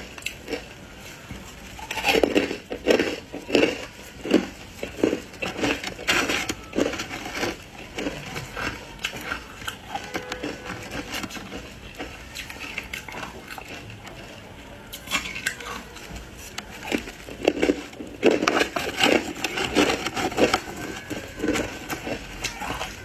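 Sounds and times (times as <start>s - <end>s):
crunching and chewing ice: 0.0s - 23.0s.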